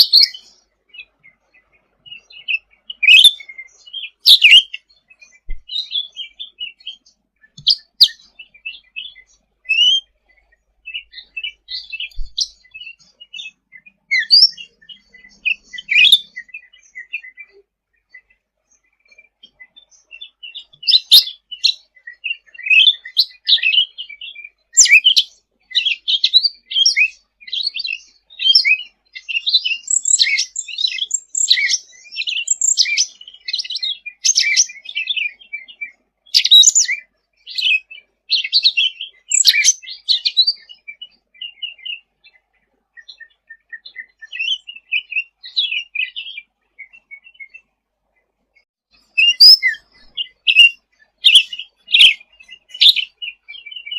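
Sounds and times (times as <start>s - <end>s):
songbird chirping and twittering: 0.0s - 53.9s.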